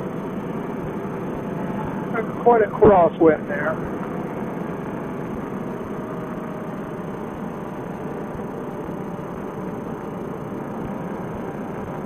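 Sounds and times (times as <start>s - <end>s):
paramotor engine running: 0.0s - 12.0s.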